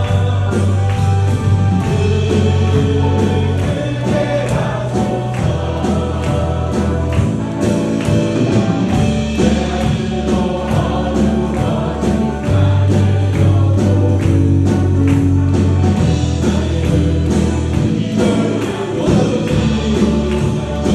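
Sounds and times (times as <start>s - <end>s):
band with bass and drums: 0.0s - 20.9s
group of singers: 0.0s - 20.9s.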